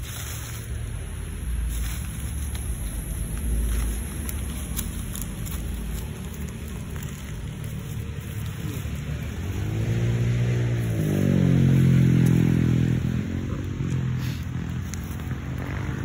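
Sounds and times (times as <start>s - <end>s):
motor vehicle engine: 0.0s - 16.0s.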